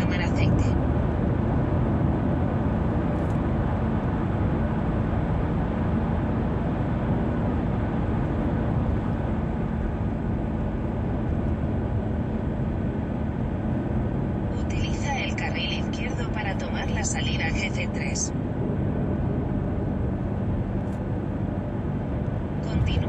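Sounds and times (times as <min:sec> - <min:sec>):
car engine hum: 0:00.0 - 0:23.0.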